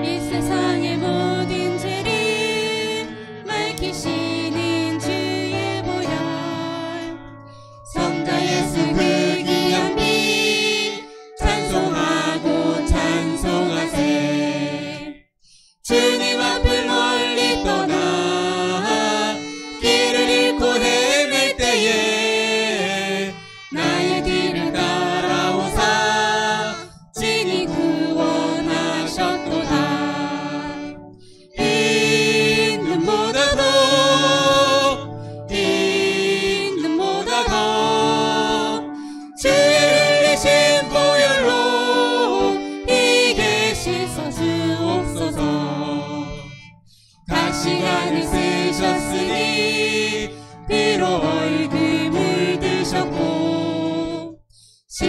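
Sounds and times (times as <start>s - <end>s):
man and woman singing: 0.0s - 7.2s, 7.9s - 15.2s, 15.9s - 30.9s, 31.6s - 46.4s, 47.3s - 55.0s
keyboard: 0.0s - 55.0s
violin: 0.0s - 55.0s.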